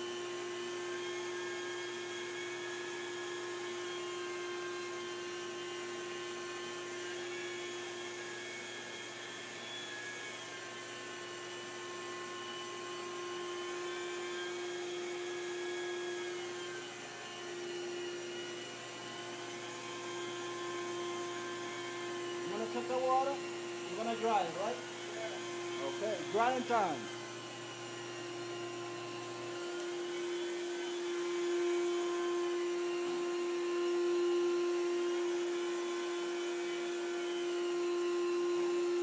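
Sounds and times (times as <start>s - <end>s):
carpet cleaning machine running: 0.0s - 39.0s.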